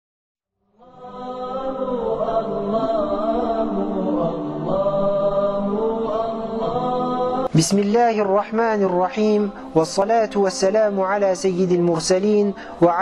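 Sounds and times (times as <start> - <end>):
vocal chant with sliding notes: 0.8 - 13.0.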